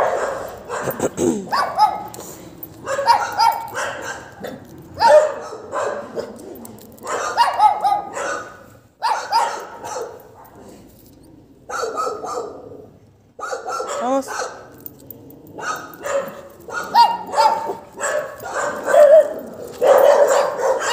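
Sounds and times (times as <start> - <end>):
dog barking: 0.0 - 2.2, 2.8 - 6.4, 7.0 - 10.7, 11.7 - 12.7, 13.4 - 14.7, 15.6 - 20.9.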